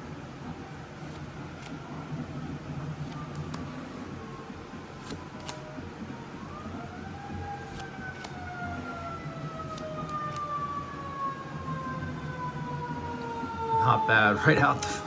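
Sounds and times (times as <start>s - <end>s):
distant siren wailing: 0.0s - 15.0s.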